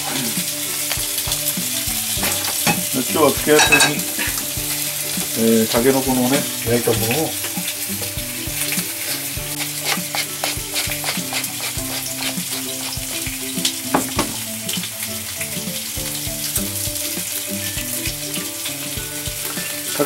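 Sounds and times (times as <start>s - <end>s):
fish frying in a pan: 0.0s - 20.0s
light background music: 0.0s - 20.0s.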